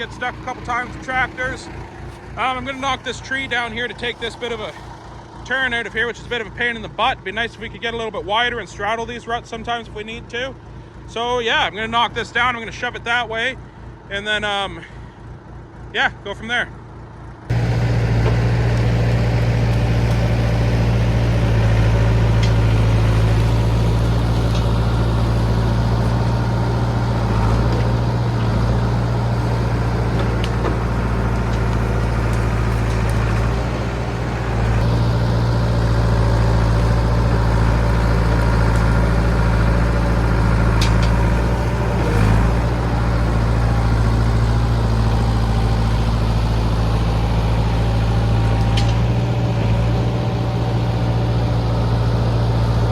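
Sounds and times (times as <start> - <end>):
dozer diesel engine under load: 0.0 - 52.9.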